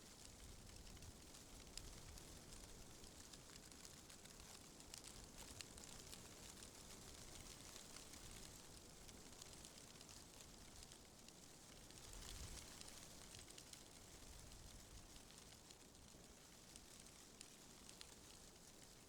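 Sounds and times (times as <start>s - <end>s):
leaves rustling in wind: 0.1s - 19.0s.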